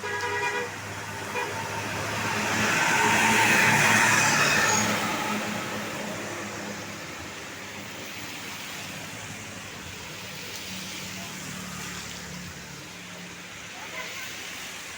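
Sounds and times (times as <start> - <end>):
road traffic hum and rush: 0.0 - 14.9.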